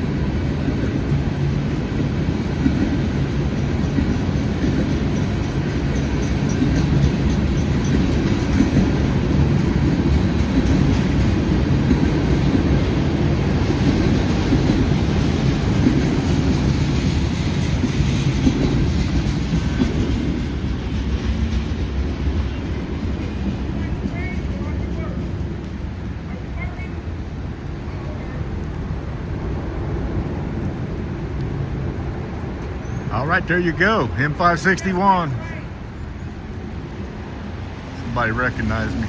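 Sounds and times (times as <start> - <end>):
clickety-clack of rails: 0.0 - 39.0
train wheels rumbling on rails: 0.0 - 39.0.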